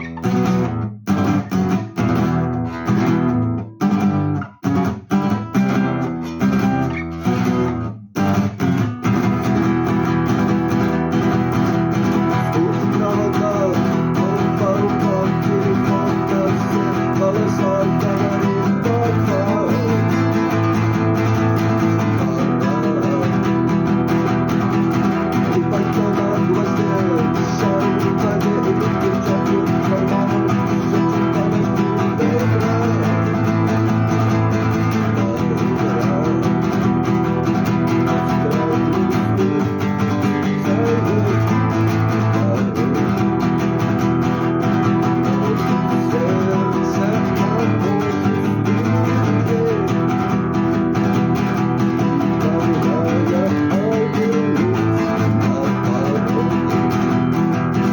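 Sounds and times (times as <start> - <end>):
plucked and strummed guitar: 0.0 - 57.9.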